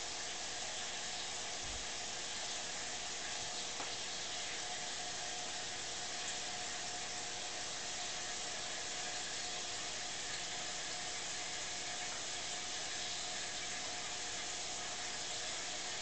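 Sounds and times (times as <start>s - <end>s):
aquarium water bubbling: 0.0s - 16.0s
faint steady hum: 0.0s - 16.0s.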